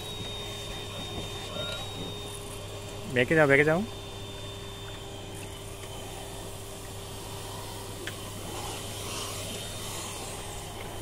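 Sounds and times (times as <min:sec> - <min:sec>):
mechanical hum with whine: 0:00.0 - 0:11.0.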